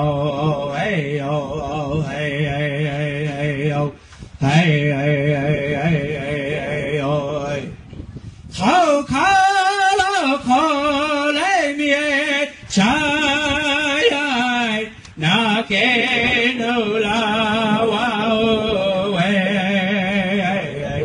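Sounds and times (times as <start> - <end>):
man singing high wavering song: 0.0 - 21.0.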